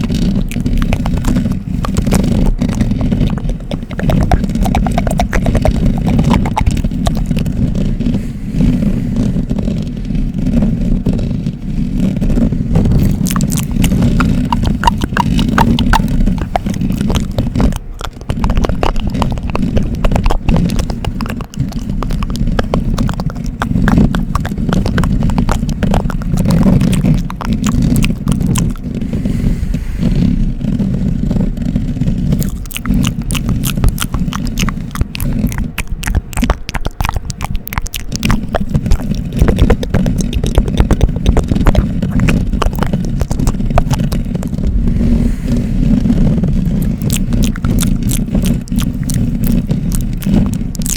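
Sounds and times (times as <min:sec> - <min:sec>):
low rumble from microphone contact: 0:00.0 - 0:50.9
scratching and clicking at microphone: 0:00.0 - 0:50.9.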